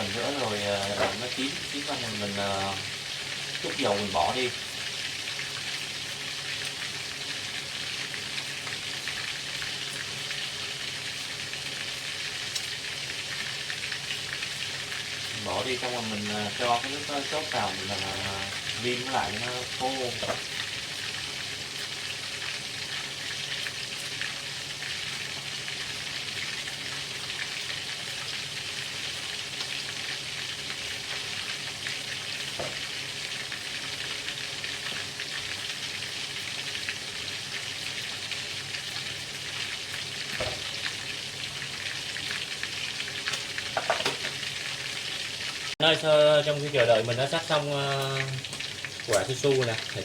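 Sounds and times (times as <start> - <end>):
meat sizzling in hot oil: 0.0 - 50.0.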